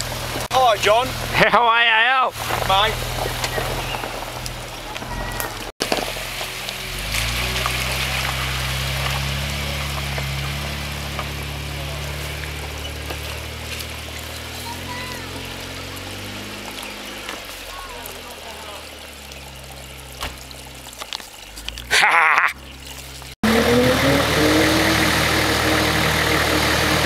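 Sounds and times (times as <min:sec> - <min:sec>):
tyres crackling over dirt and stones: 0:00.0 - 0:27.0
car engine at low revs: 0:02.3 - 0:21.8, 0:22.6 - 0:27.0.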